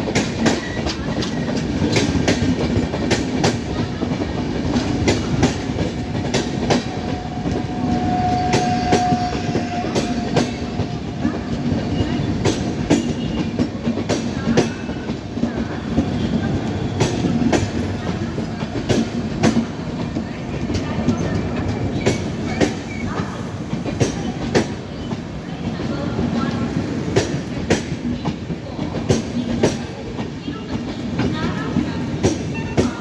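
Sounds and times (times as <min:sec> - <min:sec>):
train rumbling on track: 0:00.0 - 0:33.0
wheels clicking over rail joints: 0:00.0 - 0:33.0.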